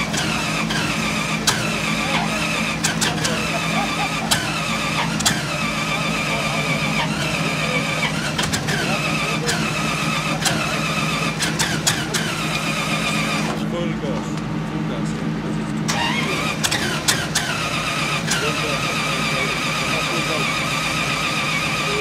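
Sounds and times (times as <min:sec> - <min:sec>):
engine idling with throttle blips: 0:00.0 - 0:22.0.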